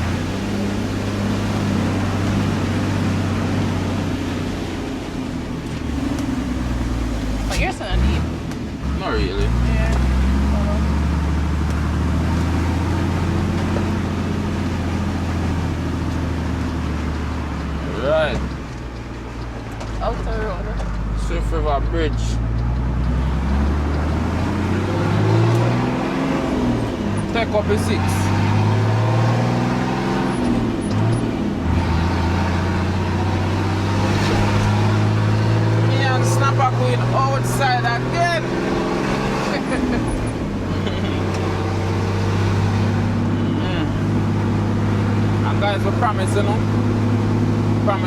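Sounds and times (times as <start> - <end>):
road noise: 0.0 - 48.0
truck engine droning: 0.0 - 48.0.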